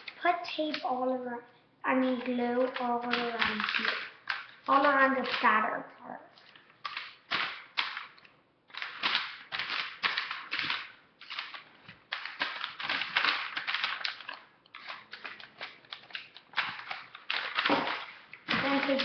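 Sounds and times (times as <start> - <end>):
paper crackling and rustling: 2.0 - 5.5, 6.4 - 19.0.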